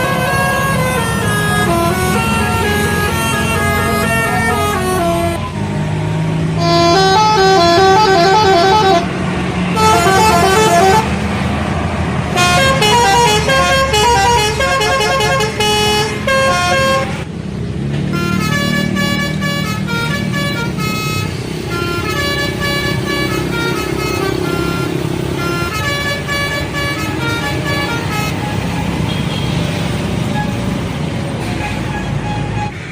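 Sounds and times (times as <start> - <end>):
bus musical horn tunes: 0.0 - 5.6, 6.5 - 11.4, 12.3 - 17.3, 18.1 - 29.7, 31.4 - 32.9
bus engine running: 0.0 - 32.9.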